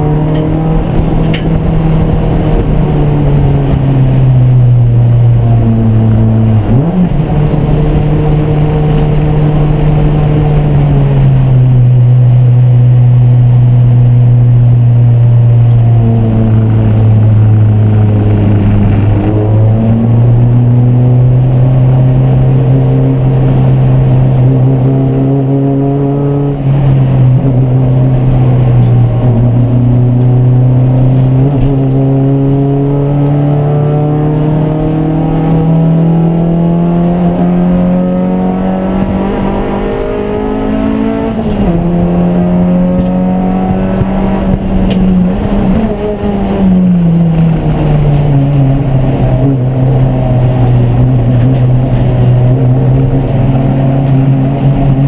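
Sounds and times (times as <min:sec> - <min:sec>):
racing car engine revving: 0:00.0 - 0:55.0.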